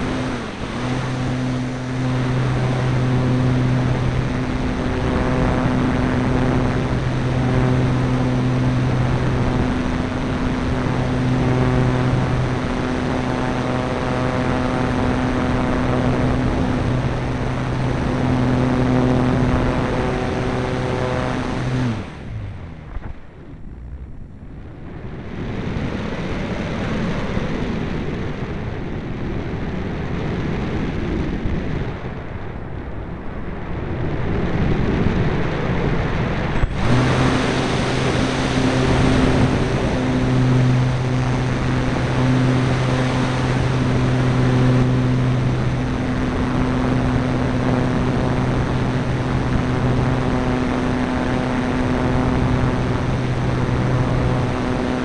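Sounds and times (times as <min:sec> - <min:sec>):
electric motor and propeller: 0:00.0 - 0:32.1, 0:33.7 - 0:55.0.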